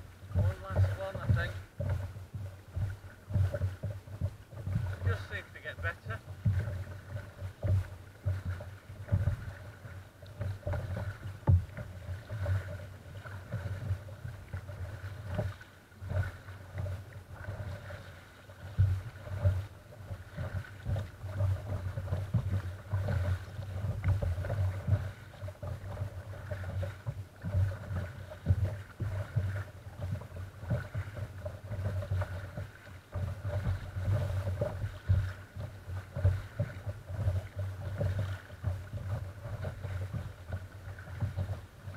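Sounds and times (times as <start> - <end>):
water splashing against kayak: 0.0 - 41.9.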